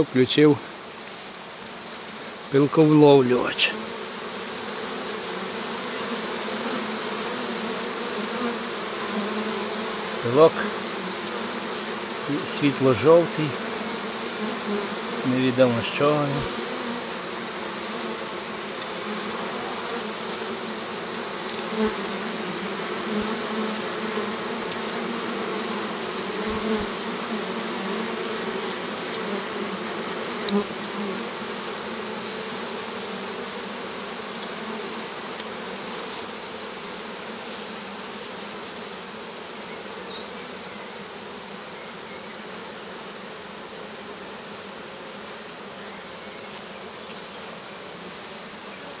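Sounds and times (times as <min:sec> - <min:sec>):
honeybees buzzing: 0:00.0 - 0:49.0.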